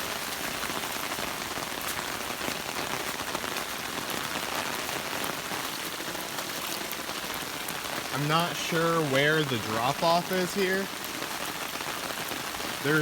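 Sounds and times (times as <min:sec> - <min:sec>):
rain hissing: 0:00.0 - 0:13.0
raindrops tapping: 0:00.0 - 0:13.0.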